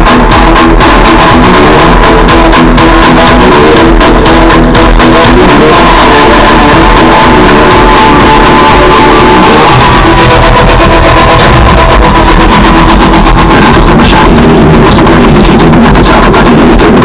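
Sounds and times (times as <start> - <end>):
loud music from car speakers: 0.0 - 17.0.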